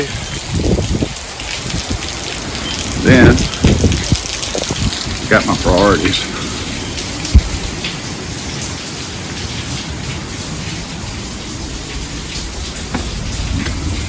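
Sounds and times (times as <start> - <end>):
gusty wind rumbling: 0.0 - 8.2, 10.5 - 14.0
heavy steady rain: 0.0 - 14.0.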